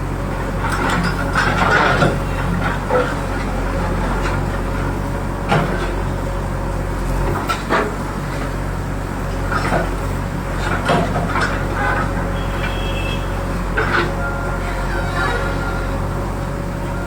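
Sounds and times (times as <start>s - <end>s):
excavator engine humming: 0.0s - 17.0s.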